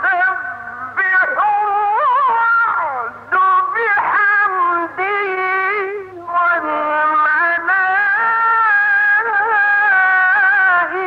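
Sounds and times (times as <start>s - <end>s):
man reciting melismatic chant: 0.0s - 11.0s.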